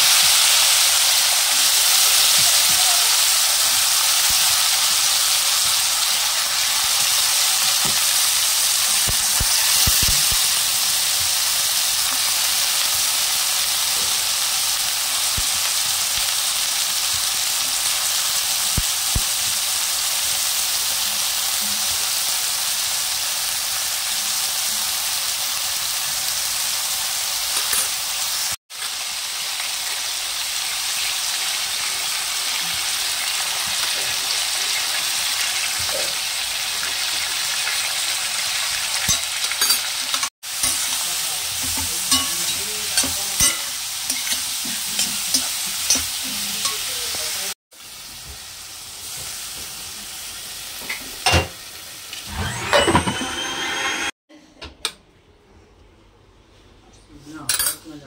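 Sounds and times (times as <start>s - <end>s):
vegetables sizzling in a pan: 0.0s - 54.2s.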